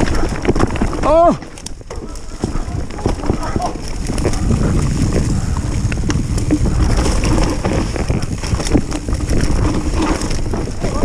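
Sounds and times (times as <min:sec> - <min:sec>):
bike rattling clicks and knocks: 0:00.0 - 0:11.0
bike tyres rumbling on dirt: 0:00.0 - 0:11.0
wind buffeting microphone: 0:00.0 - 0:11.0.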